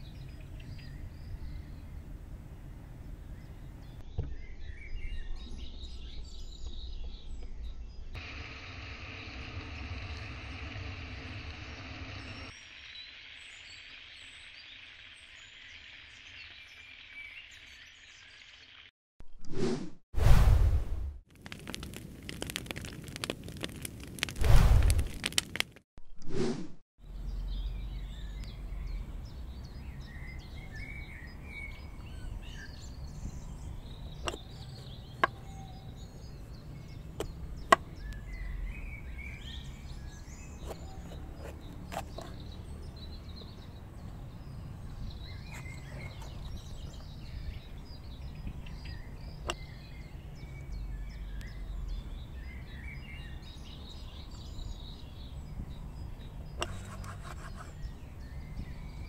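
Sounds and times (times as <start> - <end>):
birds chirping: 0.0 - 18.9, 27.0 - 59.0.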